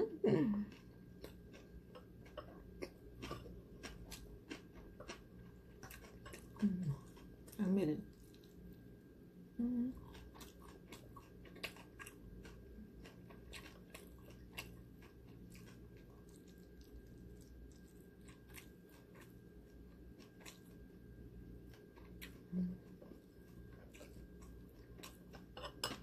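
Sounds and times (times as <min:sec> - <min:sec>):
person chewing food: 0:00.6 - 0:08.9, 0:09.9 - 0:26.0.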